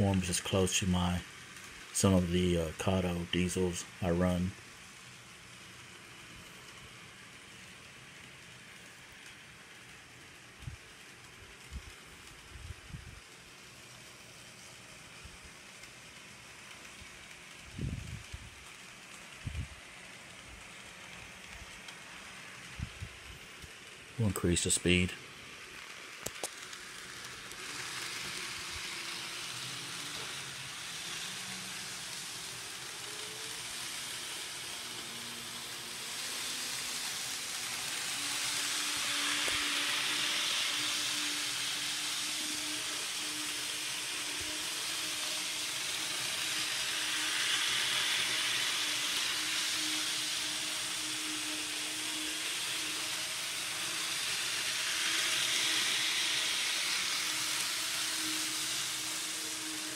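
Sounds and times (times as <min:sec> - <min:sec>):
model train wheels and motors hissing: 0:00.0 - 0:59.9
thin motor whine: 0:00.0 - 0:59.9.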